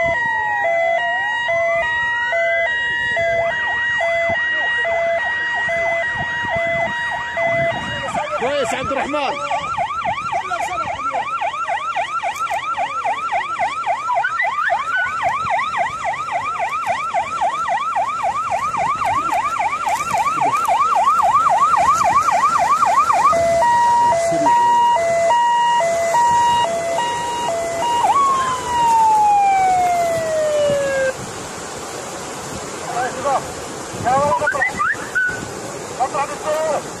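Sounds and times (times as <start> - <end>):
electronic emergency siren: 0.0 - 31.2, 34.1 - 35.5.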